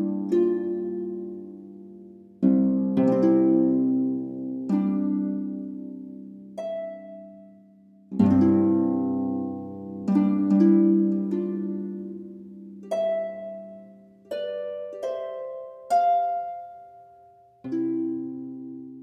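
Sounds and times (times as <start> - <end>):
slow harp notes: 0.0 - 19.0.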